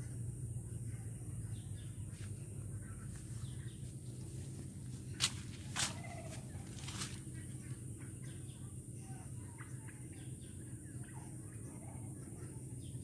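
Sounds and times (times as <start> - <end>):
birds chirping: 0.0 - 13.0
low background noise: 0.0 - 13.0.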